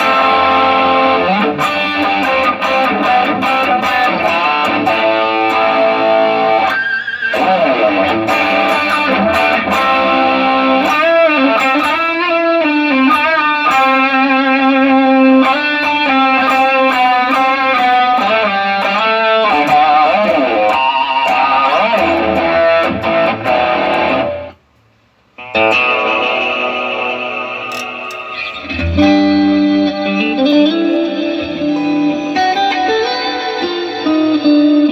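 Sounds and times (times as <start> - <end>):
electric guitar melody: 0.0 - 24.6, 25.4 - 34.9.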